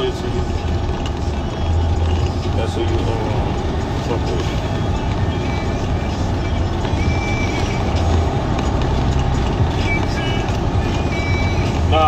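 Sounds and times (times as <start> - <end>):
vehicle cabin engine and road noise: 0.0 - 12.0.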